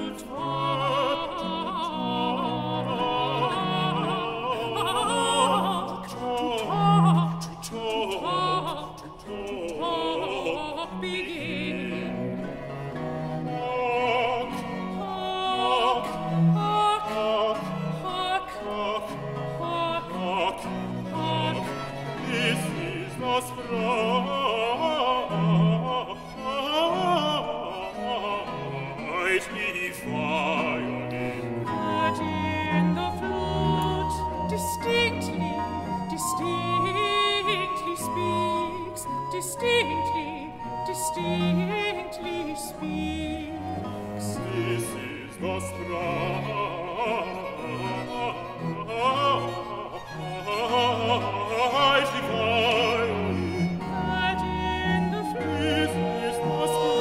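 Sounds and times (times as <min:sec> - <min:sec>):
baritone singing: 0:00.0 - 0:57.0
cello and double bass: 0:00.0 - 0:57.0
countertenor singing: 0:00.0 - 0:57.0.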